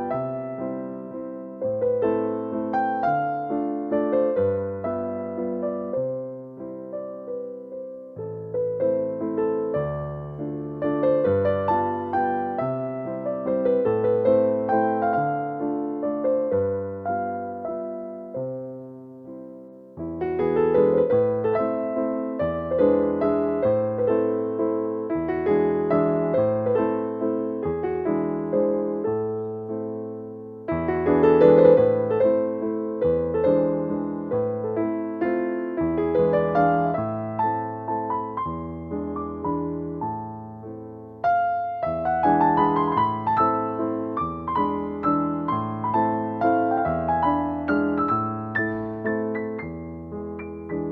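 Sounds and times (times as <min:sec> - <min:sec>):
gentle solo piano: 0:00.0 - 0:50.9.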